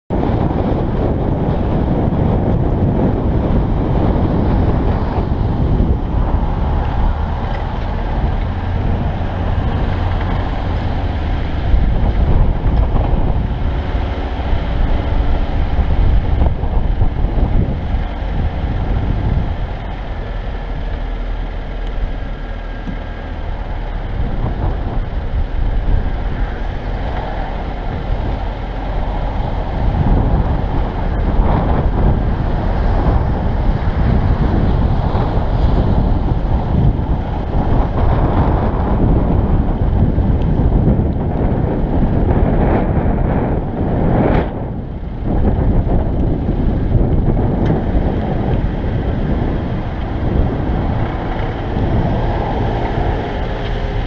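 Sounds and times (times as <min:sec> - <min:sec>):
vehicle driving on wet pavement: 0:00.1 - 0:54.0.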